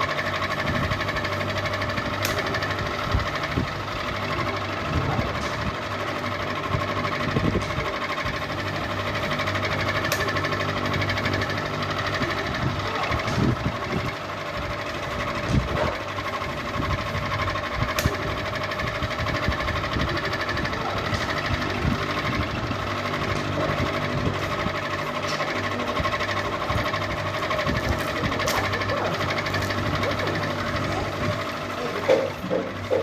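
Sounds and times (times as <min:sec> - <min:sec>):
ceiling fan humming and rattling: 0:00.0 - 0:33.0.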